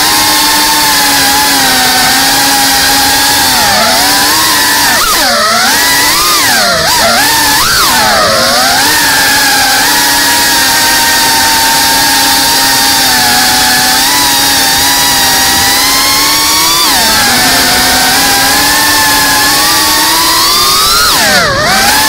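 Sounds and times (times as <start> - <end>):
drone motors and propellers buzzing: 0.0 - 22.0.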